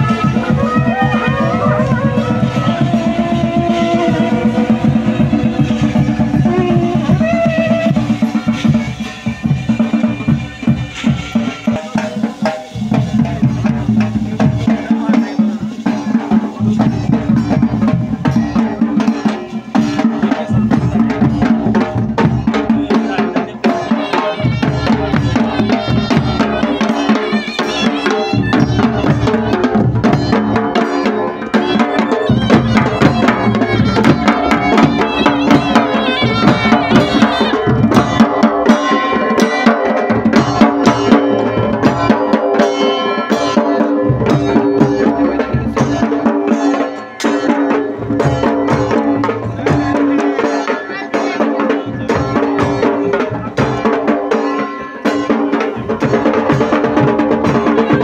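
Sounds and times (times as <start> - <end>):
shehnai melody: 0.0 - 14.0, 15.8 - 58.0
drums beating a steady rhythm: 0.0 - 58.0.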